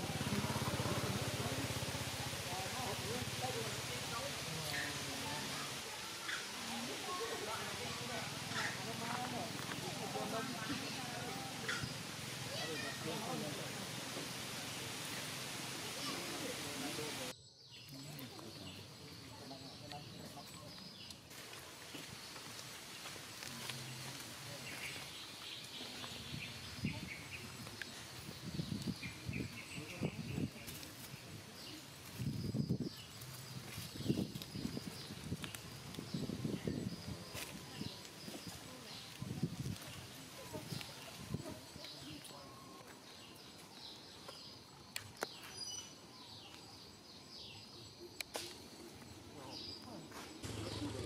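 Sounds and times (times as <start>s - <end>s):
birds chirping: 0.0s - 51.0s
faint insects chirping: 0.0s - 51.0s.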